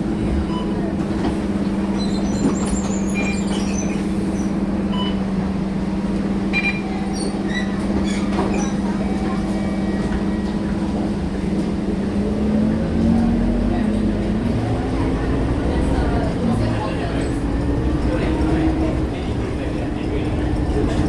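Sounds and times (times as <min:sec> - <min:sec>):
bus diesel engine humming: 0:00.0 - 0:21.0.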